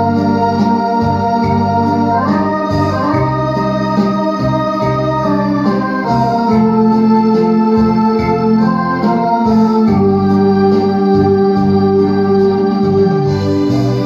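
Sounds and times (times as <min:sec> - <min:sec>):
bass line: 0:00.0 - 0:14.0
electronic keyboard chords: 0:00.0 - 0:14.0.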